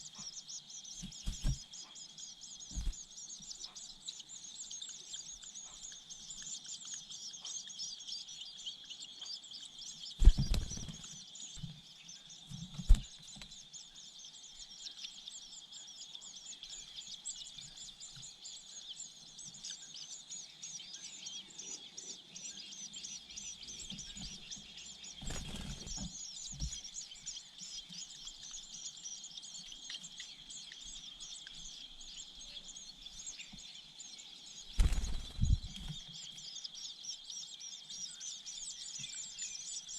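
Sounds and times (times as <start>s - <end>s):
high-pitched bird chirping: 0.0s - 34.0s, 34.6s - 39.9s.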